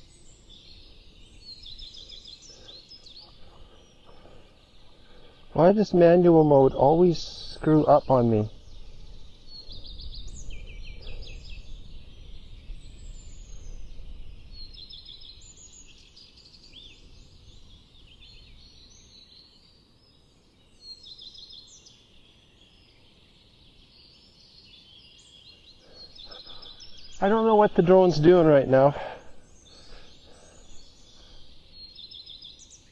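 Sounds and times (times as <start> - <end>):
songbirds chirping and trilling: 0.0 - 32.9.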